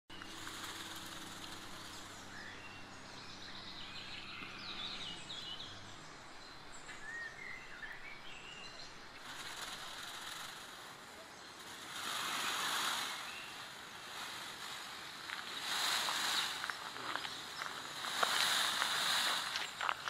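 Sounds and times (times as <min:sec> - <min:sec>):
low steady hum: 0:00.1 - 0:20.0
outdoor background noise: 0:00.1 - 0:20.0
songbirds chirping: 0:00.1 - 0:20.0.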